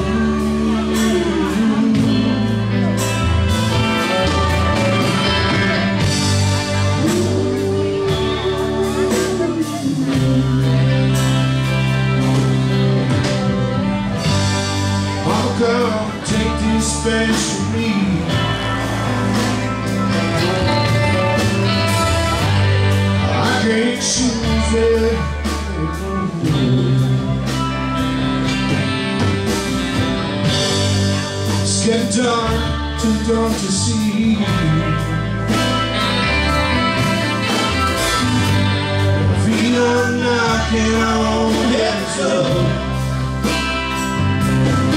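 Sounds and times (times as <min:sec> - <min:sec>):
saxophone: 0:00.0 - 0:33.0, 0:33.6 - 0:44.9
bass guitar: 0:00.0 - 0:44.9
drums: 0:00.0 - 0:44.9
electric guitar: 0:00.0 - 0:44.9.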